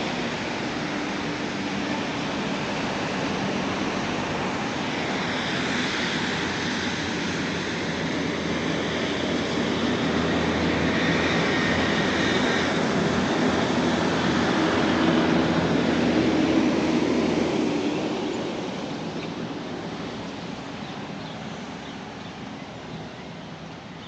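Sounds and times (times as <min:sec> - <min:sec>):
steady engine roar: 0:00.0 - 0:24.0.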